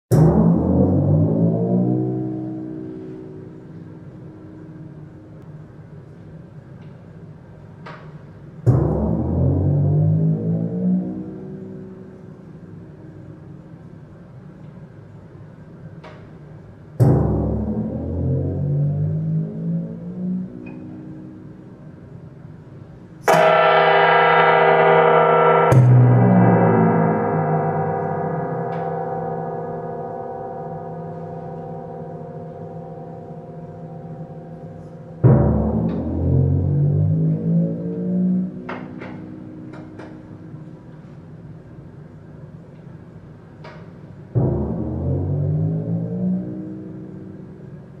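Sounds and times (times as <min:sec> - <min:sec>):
gong strikes ringing: 0:00.1 - 0:05.5, 0:08.6 - 0:14.3, 0:17.0 - 0:43.2, 0:44.0 - 0:48.0.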